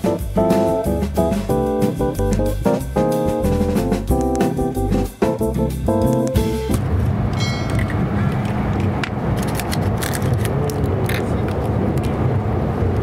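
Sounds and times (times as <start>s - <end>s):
steady low rumble: 0.4s - 13.0s.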